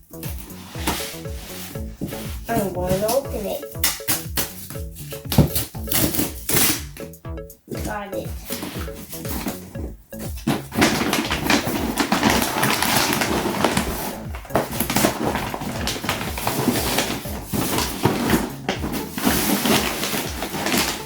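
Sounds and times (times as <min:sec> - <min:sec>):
packaging rustling and crinkling: 0:00.1 - 0:06.8, 0:08.4 - 0:21.0.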